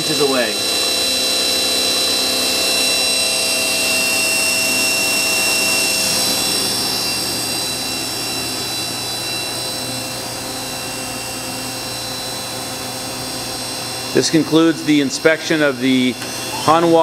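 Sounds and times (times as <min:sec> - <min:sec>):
lathe high whine: 0:00.0 - 0:17.0.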